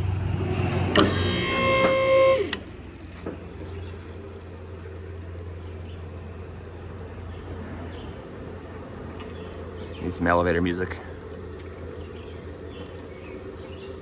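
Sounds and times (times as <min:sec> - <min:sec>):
vehicle lift humming with hiss: 0:00.0 - 0:14.0.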